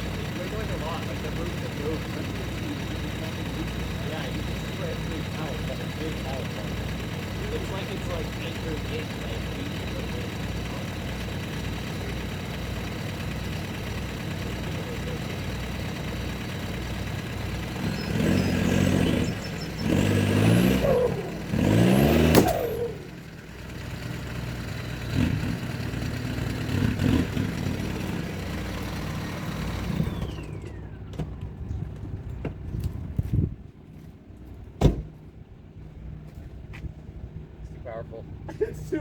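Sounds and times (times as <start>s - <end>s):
small truck engine revving: 0.0s - 33.3s.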